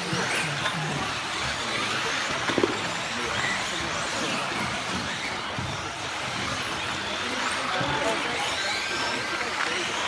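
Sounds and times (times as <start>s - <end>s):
rc car motor whine: 0.0s - 10.0s.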